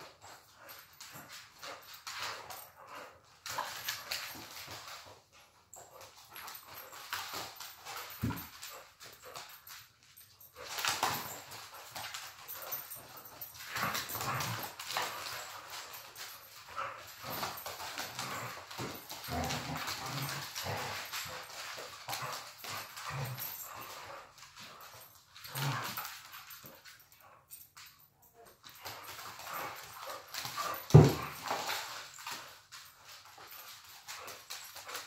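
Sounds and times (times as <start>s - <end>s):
paws scuffling on hardwood floor: 0.0s - 35.0s.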